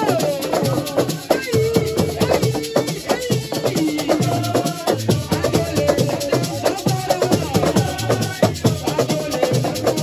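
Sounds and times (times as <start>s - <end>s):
group of voices singing: 0.0s - 10.0s
shaker rattle: 0.0s - 10.0s.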